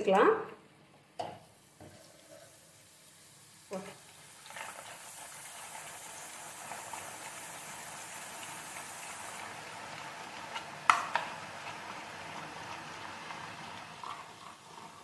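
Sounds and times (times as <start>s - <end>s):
batter frying in sizzling oil: 0.8s - 15.0s.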